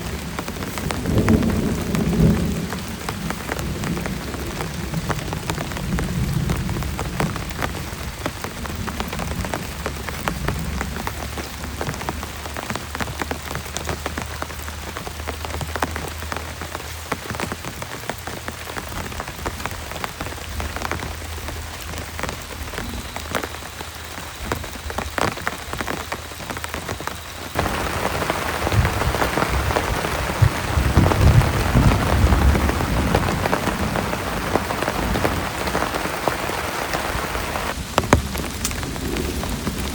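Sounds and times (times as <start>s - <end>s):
low rumble of thunder: 0.0s - 16.8s, 17.4s - 39.9s
heavy rain: 0.0s - 39.9s
raindrops tapping close by: 0.0s - 39.9s.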